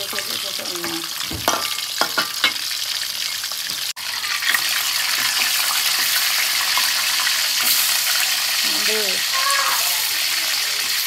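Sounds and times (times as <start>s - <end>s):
food deep-frying in oil: 0.0s - 11.0s
shallots sizzling in oil: 0.0s - 11.0s.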